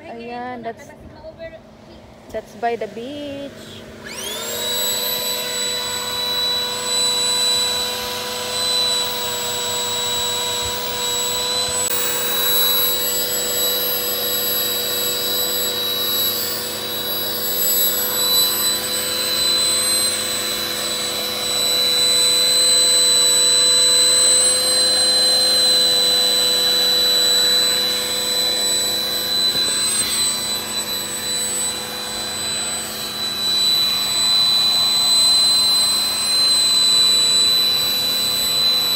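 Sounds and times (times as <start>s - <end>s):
electric air pump whining: 0.0s - 38.9s.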